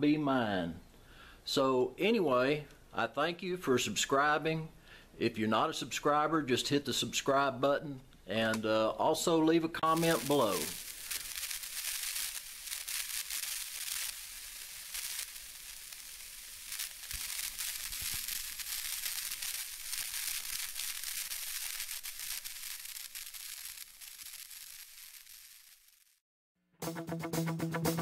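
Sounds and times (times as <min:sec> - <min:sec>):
crackling static hiss: 0:00.0 - 0:26.2.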